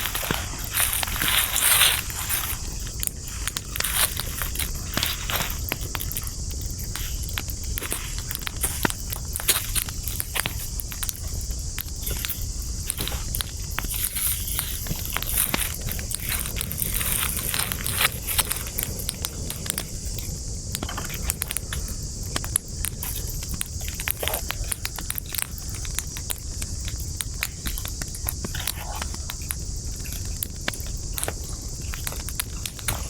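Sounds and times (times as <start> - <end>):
campfire crackling: 0.0 - 33.0
high hiss: 0.0 - 33.0
wood popping and snapping: 0.0 - 33.0.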